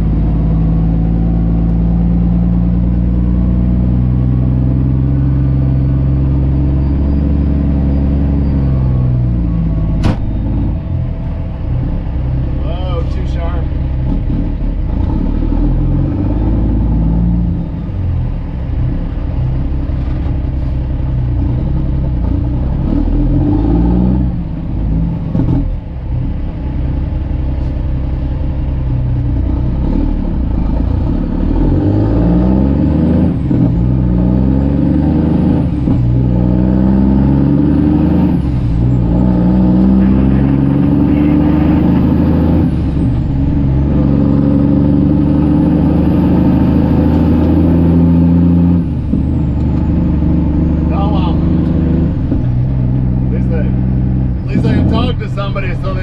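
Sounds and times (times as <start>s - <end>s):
diesel truck engine from inside cab: 0.0s - 56.0s.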